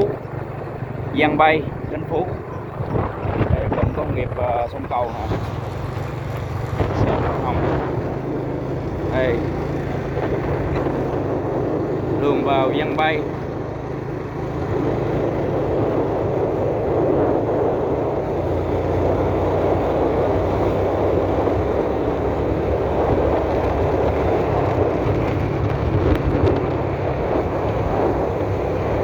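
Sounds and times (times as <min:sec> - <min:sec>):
vehicle engine: 0:00.0 - 0:29.0
wind noise: 0:00.0 - 0:29.0.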